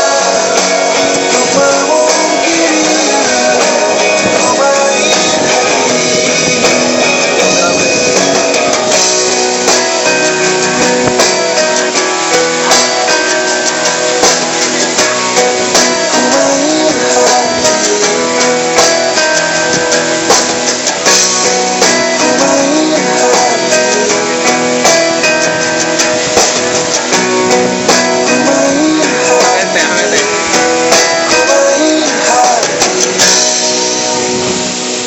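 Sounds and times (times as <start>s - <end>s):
steady rushing noise: 0.0s - 35.0s
strummed guitar music: 0.0s - 35.0s.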